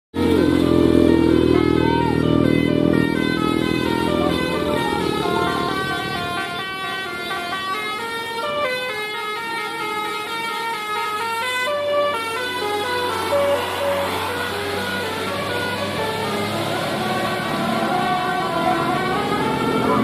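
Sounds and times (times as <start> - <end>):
musical bus horn playing tune: 0.1 - 20.0.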